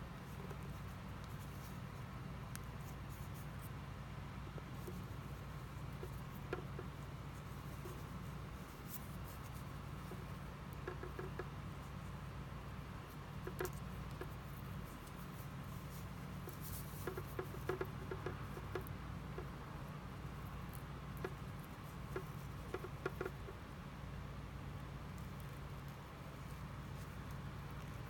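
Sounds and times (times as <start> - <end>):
steady low hum: 0.0 - 28.0
faint clicks and rustles: 0.1 - 3.8, 4.5 - 23.7, 24.4 - 28.0.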